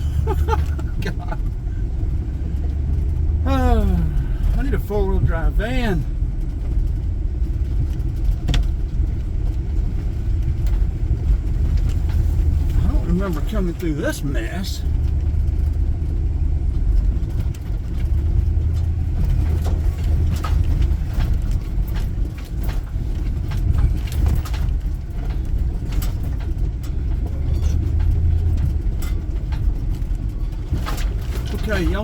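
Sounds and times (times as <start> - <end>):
knocks and rattles from bumps: 0.0 - 32.0
van engine hum: 0.0 - 32.0.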